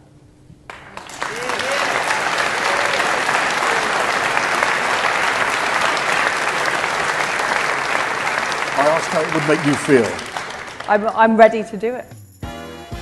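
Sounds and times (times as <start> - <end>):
large audience applauding: 0.7 - 11.3.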